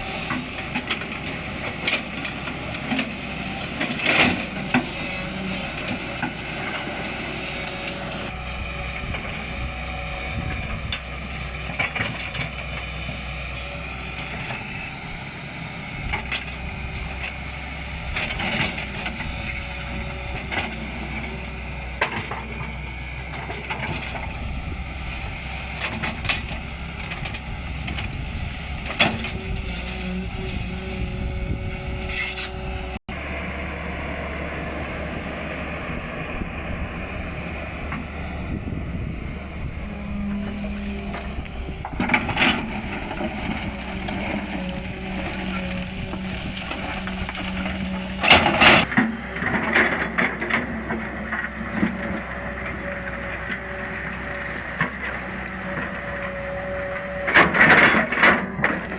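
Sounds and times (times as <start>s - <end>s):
excavator diesel engine: 0.0s - 58.9s.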